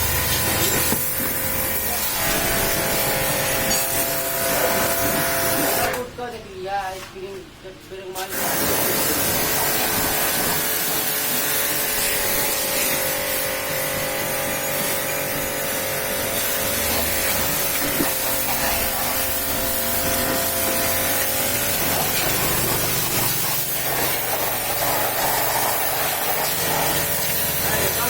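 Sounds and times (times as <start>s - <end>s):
pressure washer spraying water: 0.0s - 6.1s, 8.2s - 28.0s
machine hum: 0.0s - 6.3s, 8.3s - 28.0s.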